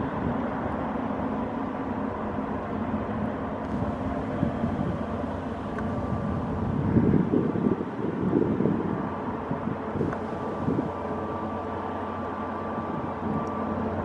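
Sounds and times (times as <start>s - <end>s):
constant hum: 0.0s - 14.0s
ship diesel engine rumble: 0.0s - 14.0s.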